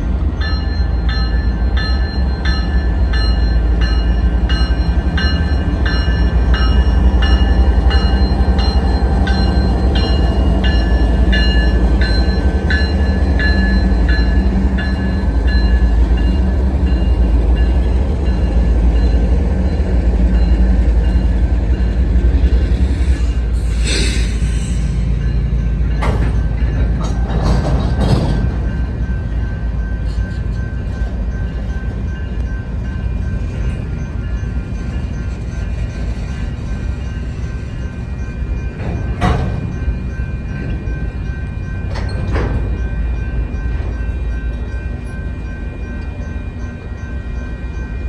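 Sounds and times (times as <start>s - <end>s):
diesel locomotive rumble: 0.0s - 46.5s
locomotive bell ringing: 0.0s - 48.0s.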